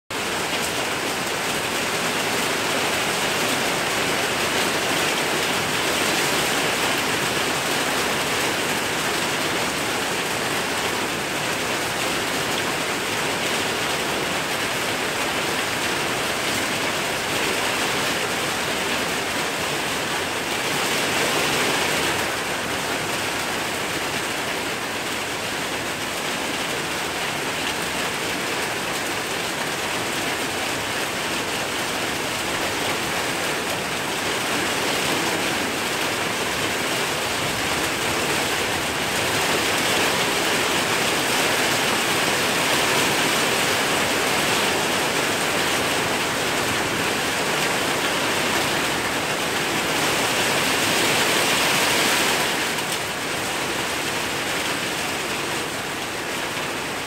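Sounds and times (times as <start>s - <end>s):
heavy rain pouring: 0.1s - 57.0s.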